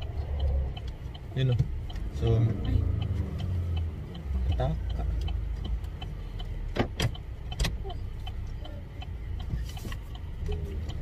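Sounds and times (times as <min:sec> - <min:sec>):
car cabin road rumble: 0:00.0 - 0:11.0
faint regular ticking: 0:00.0 - 0:11.0.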